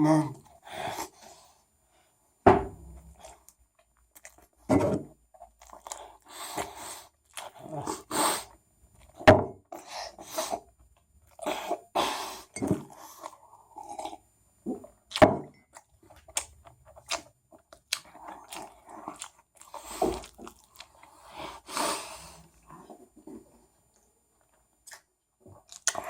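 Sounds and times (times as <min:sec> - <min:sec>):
person chewing food: 0:02.9 - 0:26.0.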